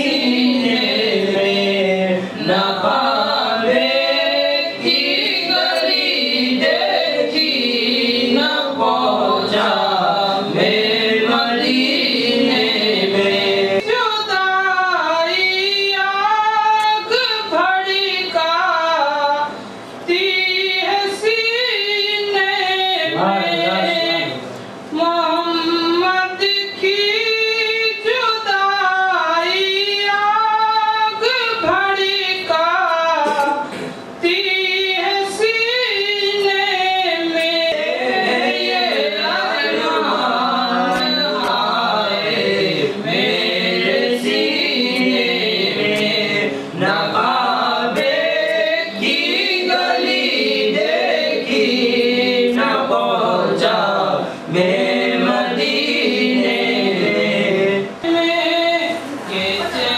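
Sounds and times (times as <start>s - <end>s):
men singing together: 0.0s - 19.5s, 20.1s - 59.9s.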